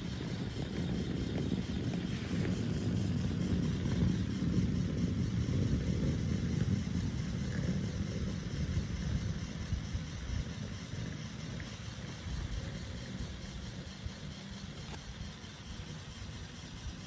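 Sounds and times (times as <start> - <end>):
toy electric motor and gears running: 0.0 - 17.0.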